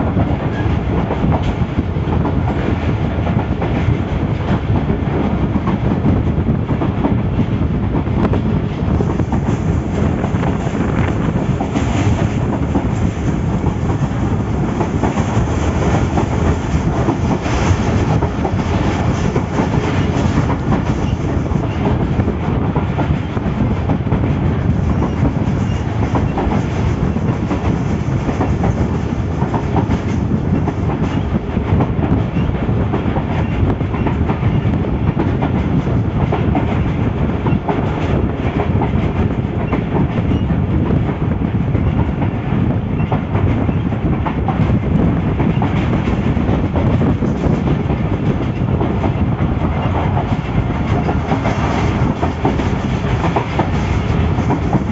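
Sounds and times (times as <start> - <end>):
rail clatter: 0.0 - 54.9
train wheels on track: 0.0 - 54.9.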